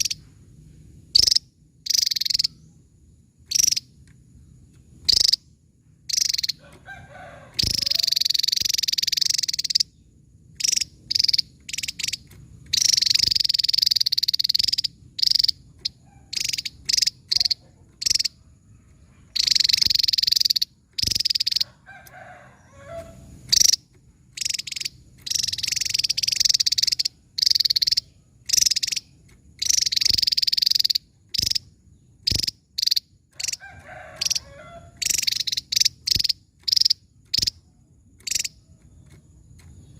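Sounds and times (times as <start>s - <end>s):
bird singing high rapid phrases: 0.0s - 0.2s, 1.1s - 4.1s, 4.9s - 6.6s, 7.5s - 18.4s, 19.2s - 21.7s, 22.9s - 33.6s, 34.2s - 37.6s, 38.2s - 39.9s.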